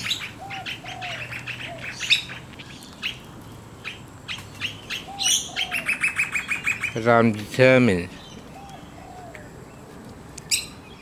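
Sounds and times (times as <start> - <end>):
lower arched bird calls: 0.0 - 7.2, 8.1 - 11.0
birds chirping: 0.0 - 11.0.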